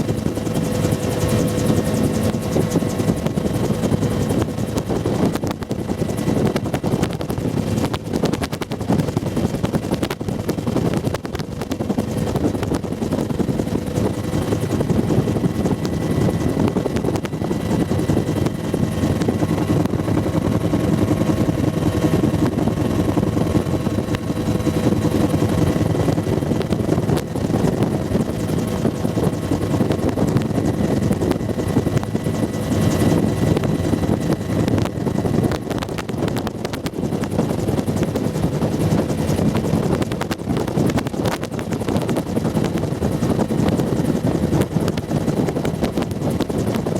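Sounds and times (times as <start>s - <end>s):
helicopter rotor beating: 0.0s - 46.9s
turbine engine whine: 0.0s - 46.9s.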